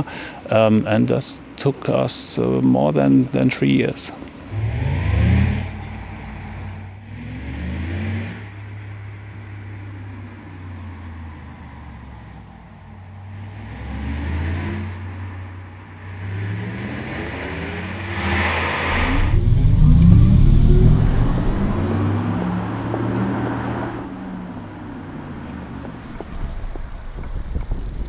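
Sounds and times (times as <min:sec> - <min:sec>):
synthesized electric car drive tone: 0:04.5 - 0:28.0.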